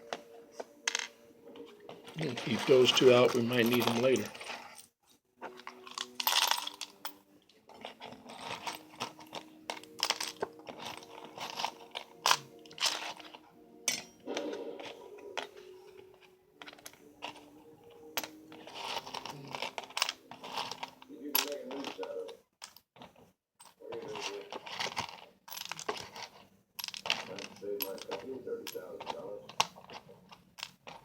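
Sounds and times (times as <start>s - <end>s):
small metal parts clicking and rattling: 2.0s - 14.2s, 15.4s - 17.4s, 18.2s - 31.0s.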